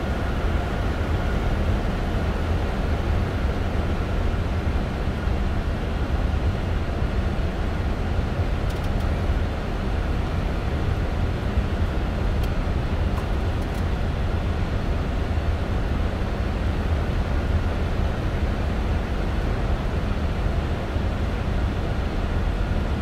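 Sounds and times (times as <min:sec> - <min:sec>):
airliner cockpit air and engine rush: 0:00.0 - 0:23.0.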